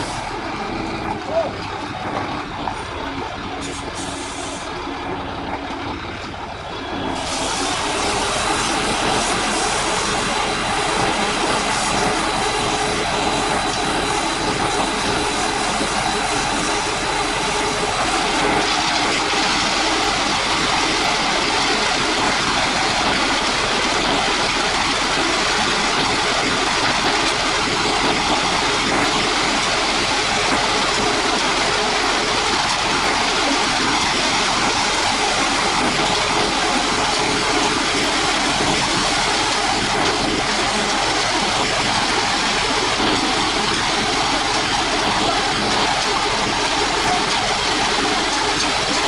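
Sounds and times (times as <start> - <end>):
construction machinery engines running: 0.0 - 49.0.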